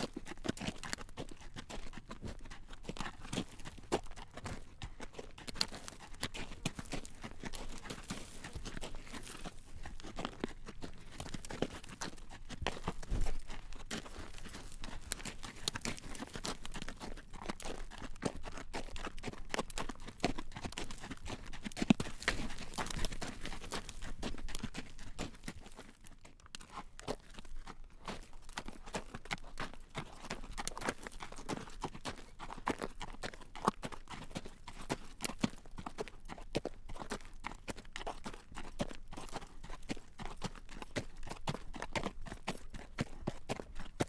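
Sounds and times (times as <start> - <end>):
horse hooves clip-clopping on road: 0.0 - 44.0.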